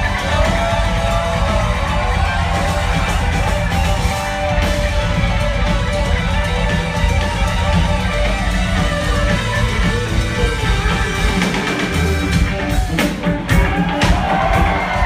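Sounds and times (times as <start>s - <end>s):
bass: 0.0s - 15.0s
drums: 0.0s - 15.0s
electric guitar: 0.0s - 15.0s.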